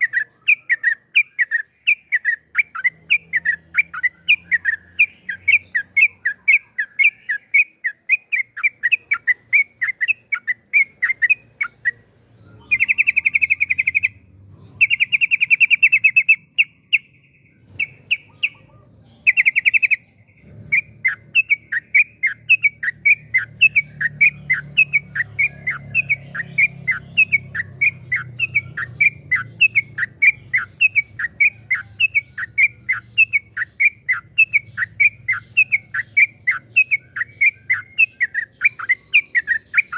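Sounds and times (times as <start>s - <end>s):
bird chirping: 0.0s - 39.9s
bird trills: 0.0s - 39.9s.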